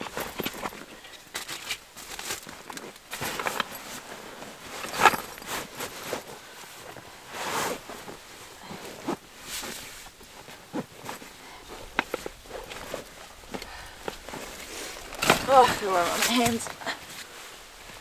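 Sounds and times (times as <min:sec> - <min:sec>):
fabric rustling and scraping: 0:00.0 - 0:18.0.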